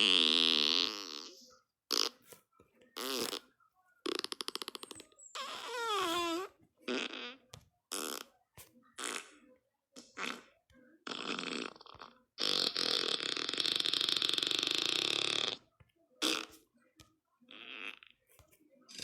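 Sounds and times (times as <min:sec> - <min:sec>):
fart sounds: 0:00.0 - 0:02.4, 0:03.0 - 0:09.4, 0:10.0 - 0:16.7, 0:17.5 - 0:19.0.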